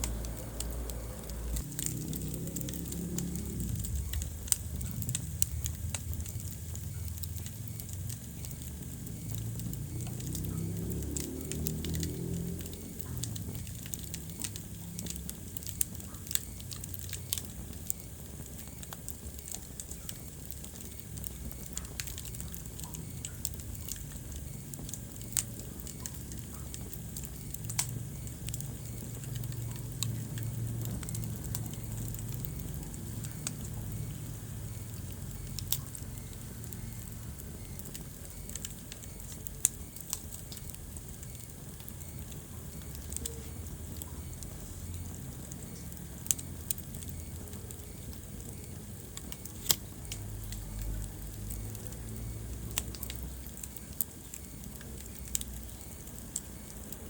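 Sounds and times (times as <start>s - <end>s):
low rumble of flame: 0.0s - 57.0s
wood fire crackling and popping: 0.0s - 57.0s.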